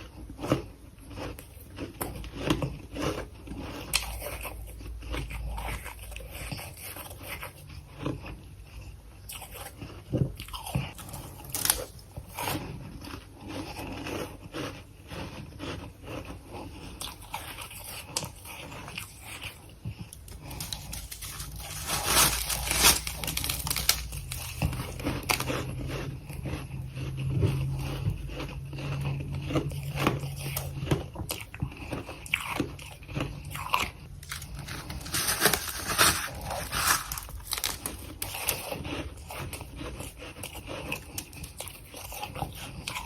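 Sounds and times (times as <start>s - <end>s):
chewing crunchy frost: 0.0s - 43.0s.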